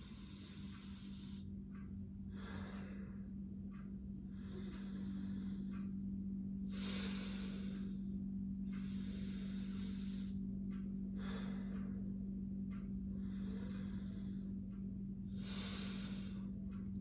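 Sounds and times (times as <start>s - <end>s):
deep breathing through nose: 0.0s - 3.4s, 4.3s - 6.0s, 6.6s - 17.0s
steady low hum: 0.0s - 17.0s.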